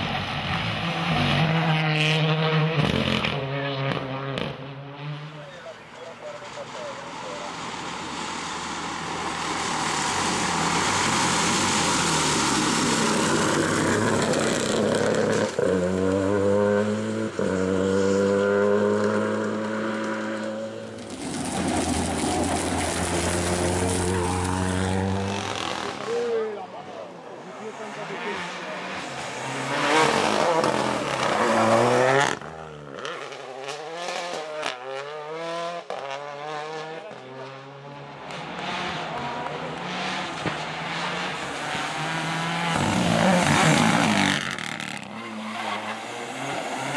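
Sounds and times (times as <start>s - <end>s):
rally car engine: 0.0s - 46.9s.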